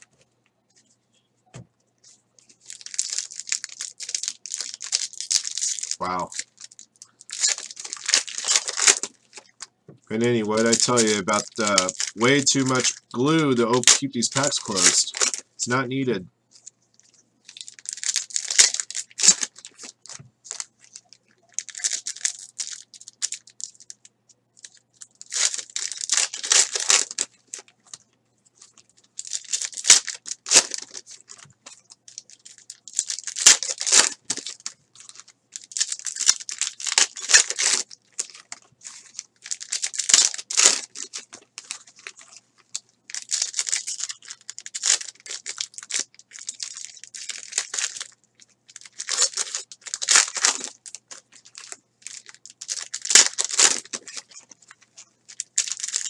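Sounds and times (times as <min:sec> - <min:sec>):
foil packs tearing and crinkling: 0:02.6 - 0:09.6, 0:10.2 - 0:15.5, 0:17.5 - 0:23.8, 0:24.7 - 0:28.0, 0:28.7 - 0:56.0.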